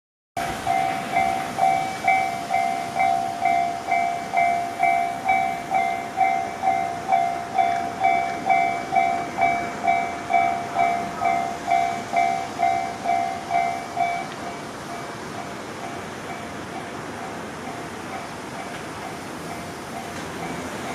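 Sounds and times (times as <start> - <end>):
level crossing alarm bell: 0.4 - 20.9
steady background noise: 0.4 - 20.9.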